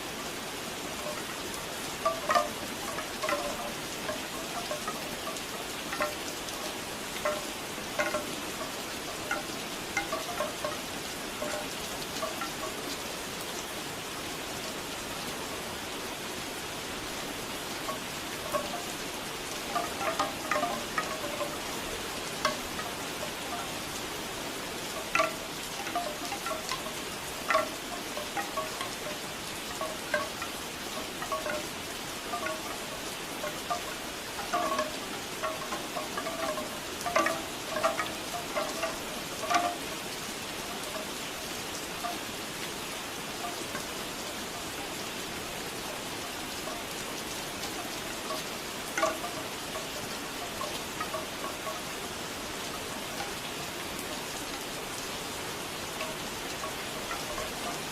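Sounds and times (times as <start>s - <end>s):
bamboo wind chimes clacking: 0.0s - 57.9s
steady rain: 0.0s - 57.9s.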